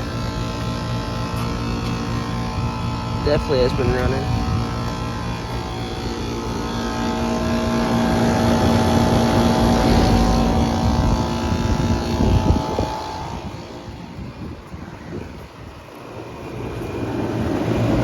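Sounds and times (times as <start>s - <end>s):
air conditioner compressor and fan hum: 0.0s - 18.0s.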